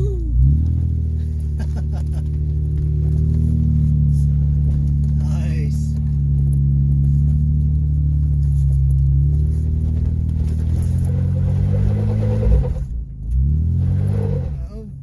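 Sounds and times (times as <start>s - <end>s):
engine pulling under load: 0.0s - 15.0s.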